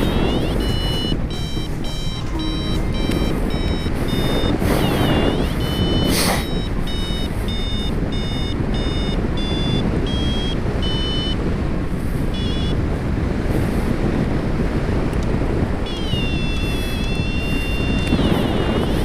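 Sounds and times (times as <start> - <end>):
variometer beeping: 0.0 - 13.3, 15.1 - 19.0
wind rushing over microphone: 0.0 - 19.0.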